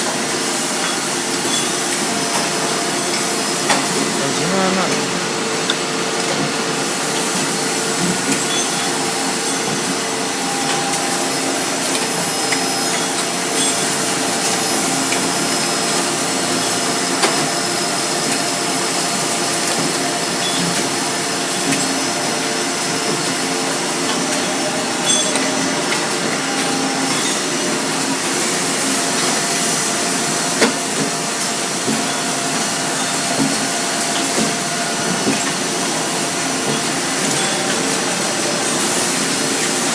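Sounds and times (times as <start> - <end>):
production line machinery running: 0.0 - 39.9.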